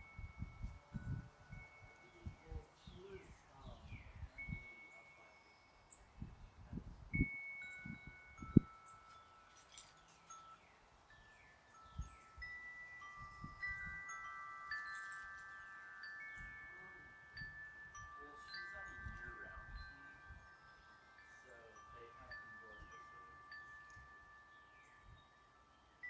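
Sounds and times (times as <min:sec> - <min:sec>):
wind chimes ringing: 0:00.0 - 0:26.0.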